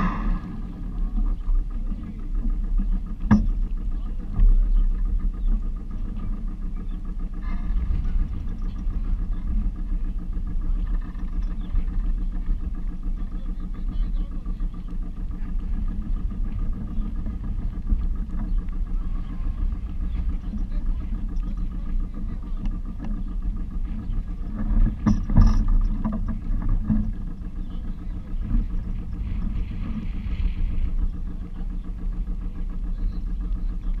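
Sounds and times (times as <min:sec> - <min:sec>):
boat engine idling: 0:00.0 - 0:34.0.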